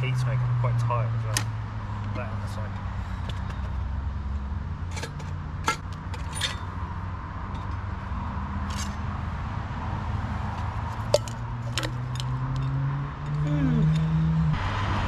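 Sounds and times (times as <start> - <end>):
distant road traffic drone: 0.0 - 15.0.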